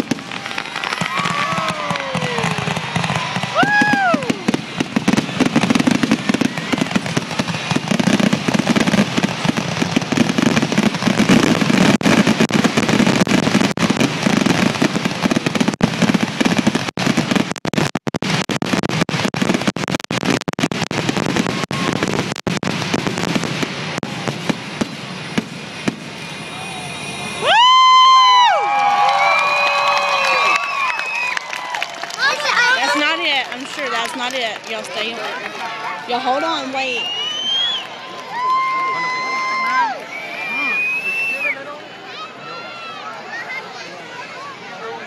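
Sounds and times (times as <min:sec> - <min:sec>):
fireworks crackling pops: 0:00.0 - 0:38.7.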